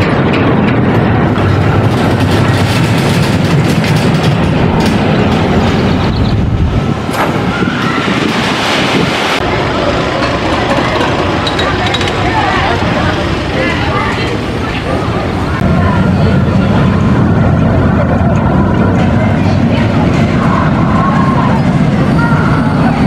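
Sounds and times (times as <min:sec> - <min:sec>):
roller coaster wheels rumbling: 0:00.0 - 0:23.0.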